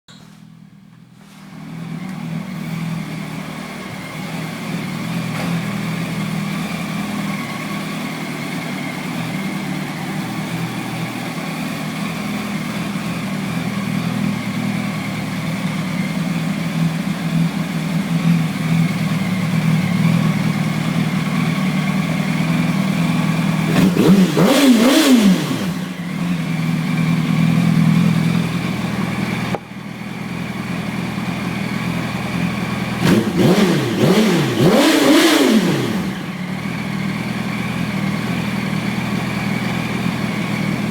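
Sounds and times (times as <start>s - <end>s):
motorcycle engine idling: 0.1s - 40.9s.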